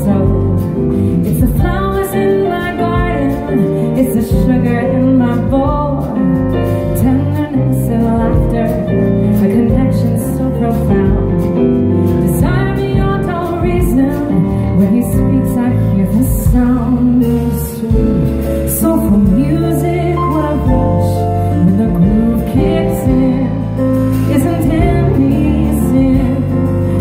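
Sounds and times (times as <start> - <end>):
drums: 0.0 - 27.0
woman singing: 0.0 - 27.0.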